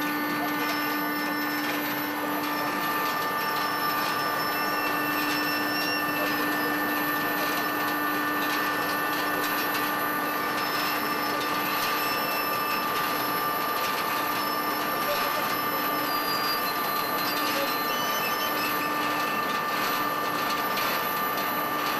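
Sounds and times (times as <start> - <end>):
machinery humming with steady tones: 0.0 - 21.9.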